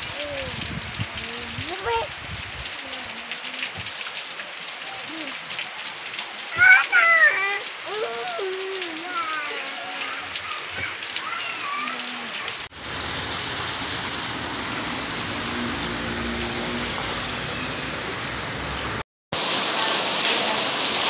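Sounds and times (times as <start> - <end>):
heavy rain splashing: 0.0 - 21.0.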